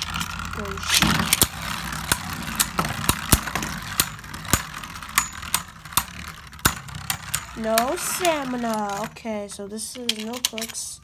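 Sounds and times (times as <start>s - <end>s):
spinning tops clashing clicks: 0.0s - 11.0s
spinning tops whirring: 0.0s - 11.0s.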